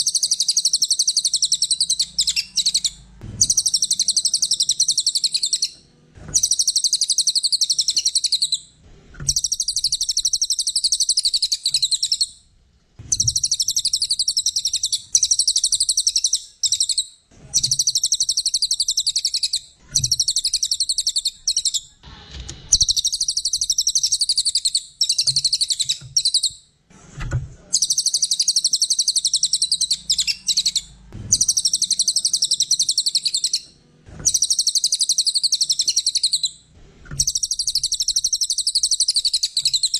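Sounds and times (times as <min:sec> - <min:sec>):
songbird trilling: 0:00.0 - 0:05.8, 0:06.4 - 0:08.6, 0:09.3 - 0:12.3, 0:13.1 - 0:21.9, 0:22.8 - 0:26.6, 0:27.8 - 0:33.6, 0:34.2 - 0:36.5, 0:37.2 - 0:39.9.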